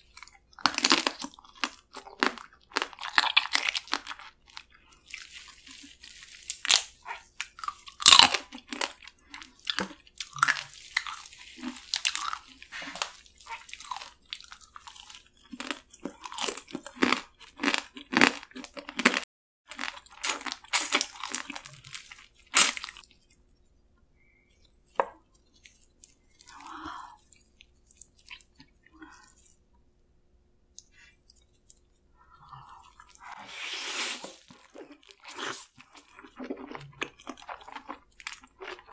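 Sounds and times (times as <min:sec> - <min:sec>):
crunching and chewing: 0:00.0 - 0:23.4, 0:24.3 - 0:29.7, 0:34.2 - 0:38.9.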